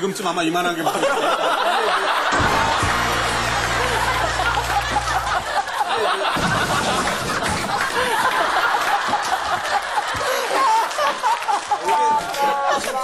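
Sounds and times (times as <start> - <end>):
group of people laughing: 0.7 - 13.0.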